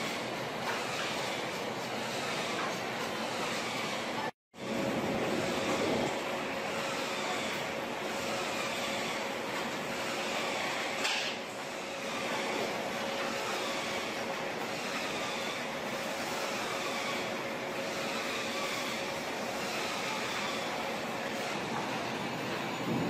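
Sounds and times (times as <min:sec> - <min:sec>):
conveyor machinery humming: 0:00.0 - 0:23.0.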